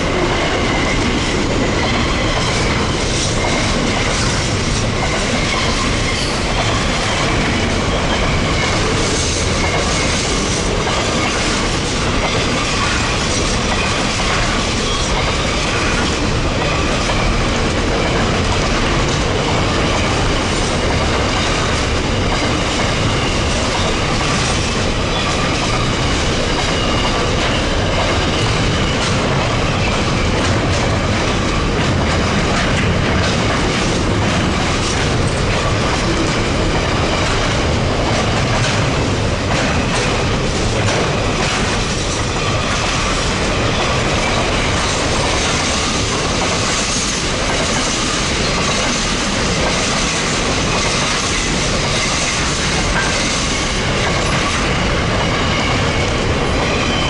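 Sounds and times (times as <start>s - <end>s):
train wheels clacking over rail joints: 0.0s - 57.0s.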